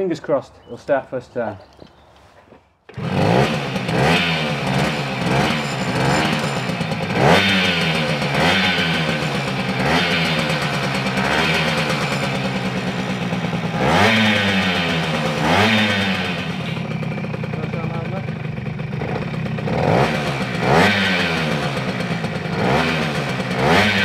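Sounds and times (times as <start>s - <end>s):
moped engine revving: 2.8s - 24.0s.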